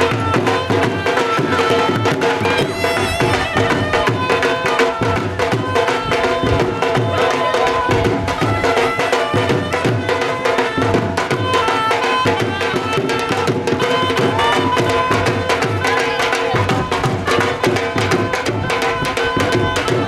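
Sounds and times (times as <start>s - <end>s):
dhol drums playing fast beat: 0.0s - 20.0s
held melody line: 0.0s - 20.0s.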